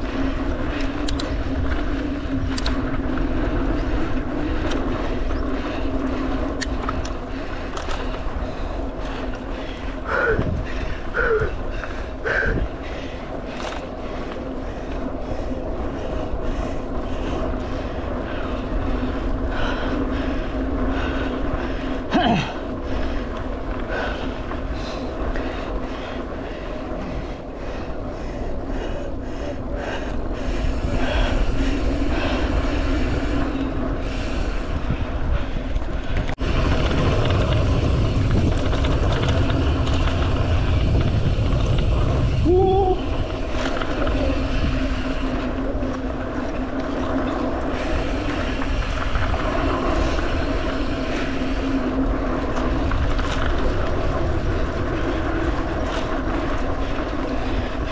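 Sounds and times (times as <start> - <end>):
bike clicks and rattles: 0.0 - 57.9
tyres rolling on dirt trail: 0.0 - 57.9
wind rushing over microphone: 0.0 - 57.9.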